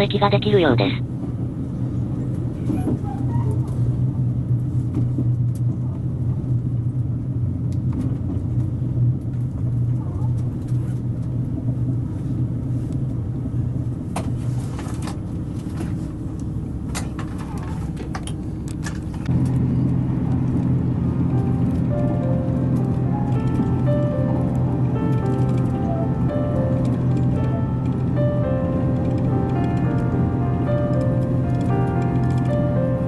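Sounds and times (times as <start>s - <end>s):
train engine drone: 0.0s - 33.0s.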